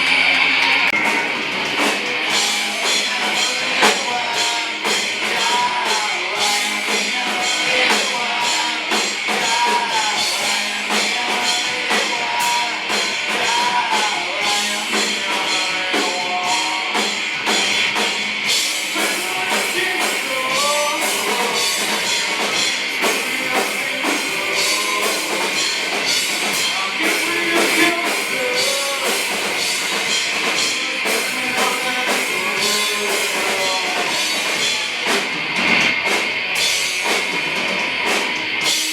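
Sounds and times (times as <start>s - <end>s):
person singing: 0.0s - 35.3s
live rock band: 0.0s - 38.9s.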